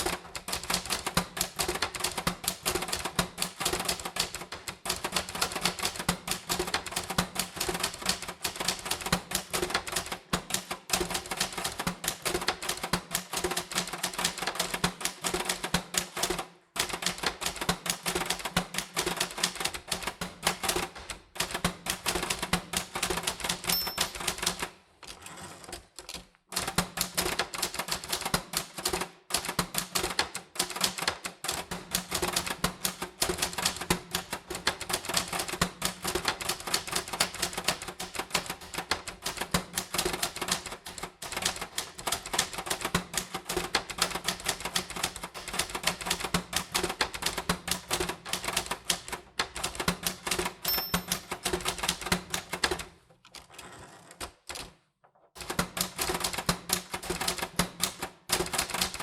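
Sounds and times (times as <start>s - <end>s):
typewriter keys clacking: 0.0s - 54.8s, 55.4s - 59.0s.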